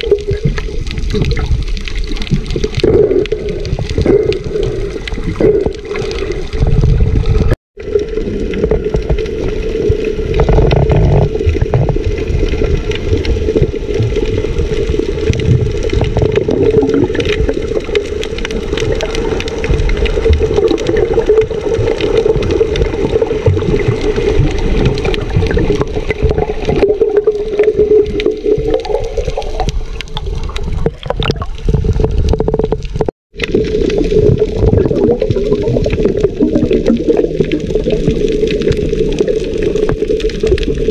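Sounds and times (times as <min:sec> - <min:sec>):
muffled underwater rush: 0:00.0 - 0:40.9.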